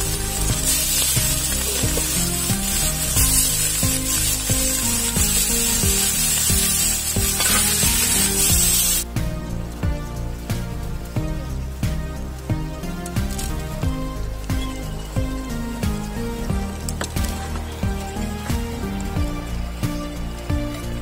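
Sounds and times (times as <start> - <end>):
background music with plucked notes: 0.0 - 21.0
oil sizzling in a wok: 0.0 - 21.0.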